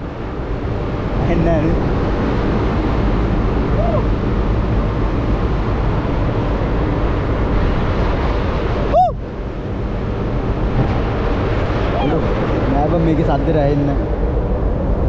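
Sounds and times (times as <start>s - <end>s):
low rumble: 0.0s - 15.0s
rushing wind: 0.0s - 15.0s.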